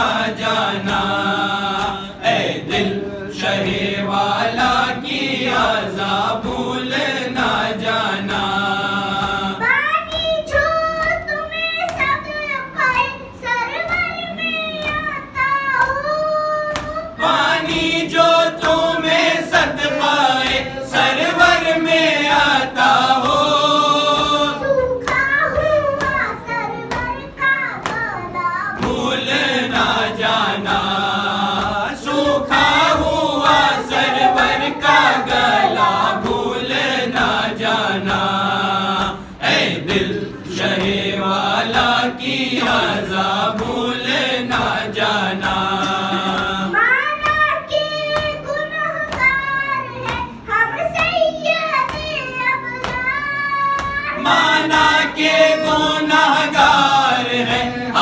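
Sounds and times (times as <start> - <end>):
boy singing unaccompanied: 3.4 - 39.1, 40.5 - 58.0.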